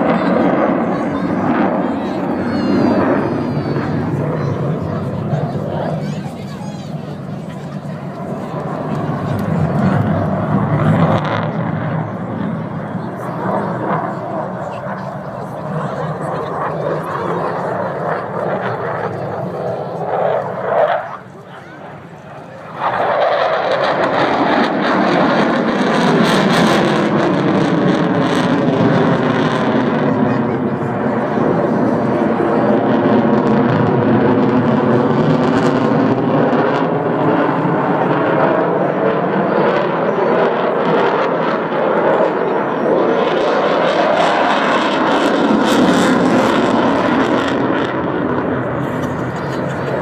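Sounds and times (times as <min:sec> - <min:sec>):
fighter jet engines roaring: 0:00.0 - 0:50.0.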